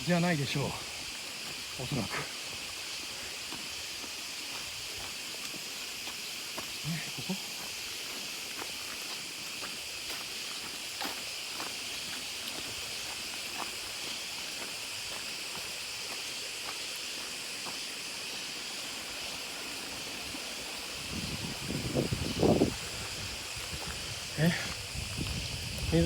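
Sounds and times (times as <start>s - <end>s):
steady high-pitched hiss: 0.0s - 26.0s.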